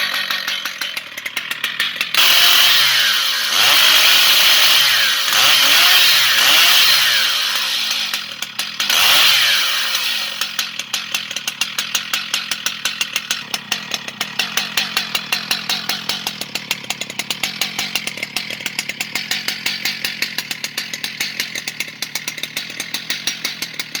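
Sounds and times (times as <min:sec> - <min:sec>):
chainsaw engine revving and idling: 0:00.0 - 0:24.0.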